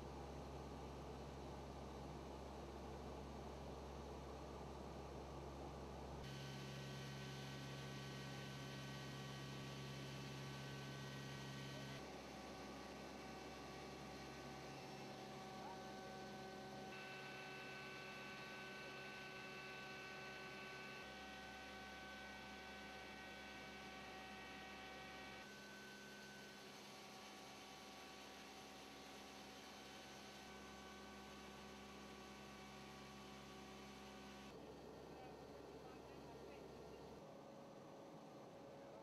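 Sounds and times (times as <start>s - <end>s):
faint hum of held tones: 0.1s - 39.0s.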